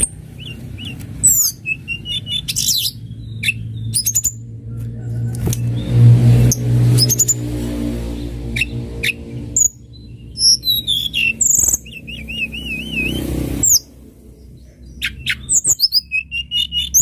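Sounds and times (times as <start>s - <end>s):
low background rumble: 0.0s - 17.0s
songbird singing: 0.0s - 17.0s.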